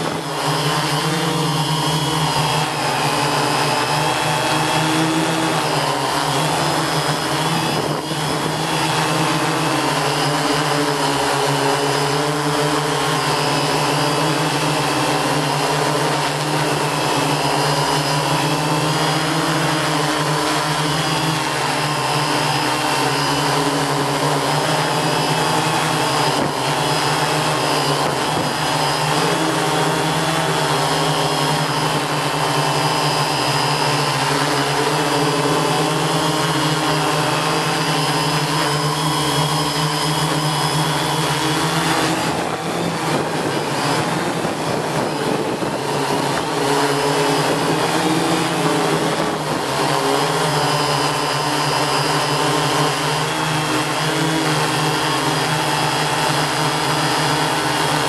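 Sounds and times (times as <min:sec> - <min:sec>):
drone motors humming and whining: 0:00.0 - 0:58.0.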